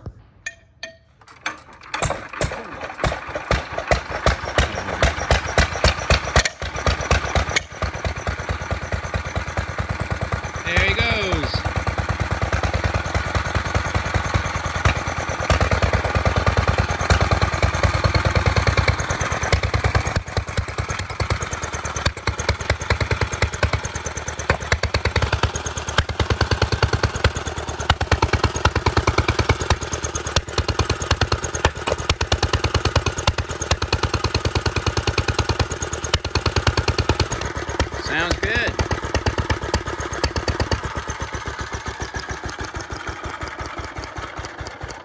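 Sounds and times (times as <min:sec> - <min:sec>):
single-cylinder engine running: 0:00.5 - 0:45.0.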